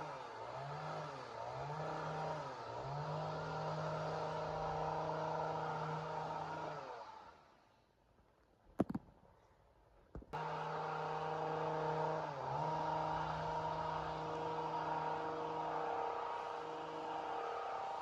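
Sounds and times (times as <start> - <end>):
chainsaw engine running: 0.0 - 7.3, 10.4 - 18.0.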